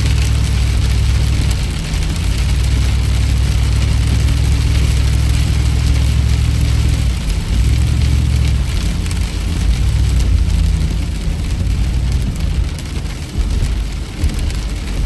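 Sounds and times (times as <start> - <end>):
car engine and road rumble: 0.0 - 15.0
rain and tyre spray hiss: 0.0 - 15.0.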